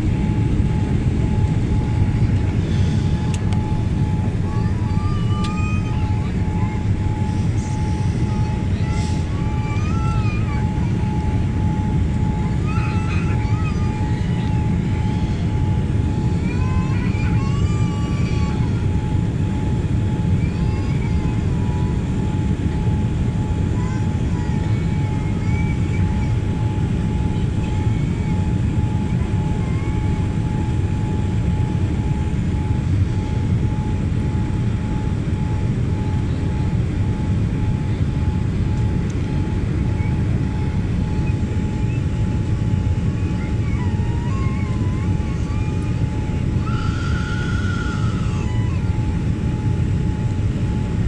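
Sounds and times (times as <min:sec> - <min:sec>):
jet airliner engines roaring: 0:00.0 - 0:51.0
steady high hum: 0:00.0 - 0:51.0.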